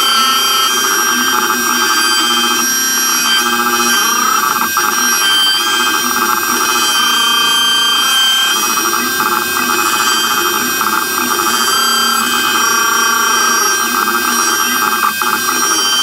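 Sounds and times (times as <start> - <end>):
router spindle whining: 0.0 - 16.0
stepper motors buzzing: 0.0 - 16.0.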